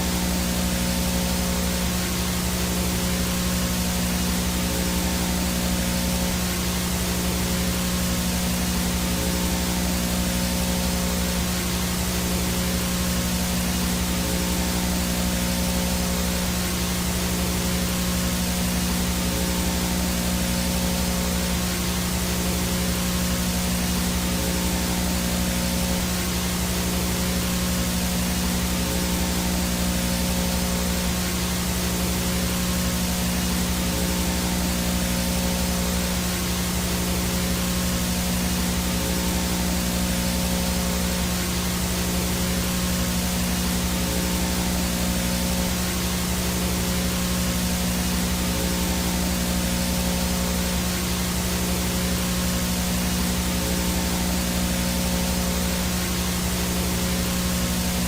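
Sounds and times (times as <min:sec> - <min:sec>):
low electrical hum: 0:00.0 - 0:58.0
static hiss: 0:00.0 - 0:58.0.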